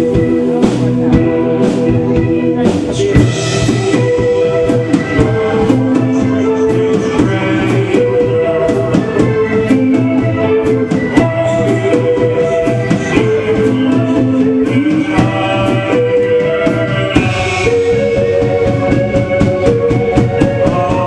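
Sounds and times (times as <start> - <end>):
held melody notes: 0.0 - 21.0
live band playing: 0.0 - 21.0.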